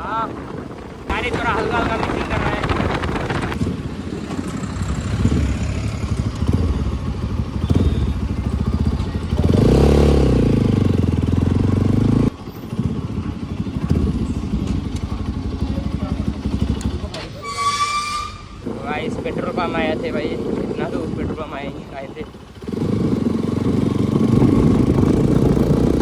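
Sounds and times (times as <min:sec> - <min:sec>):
motorcycle engine revving: 0:00.7 - 0:17.4, 0:18.6 - 0:26.0.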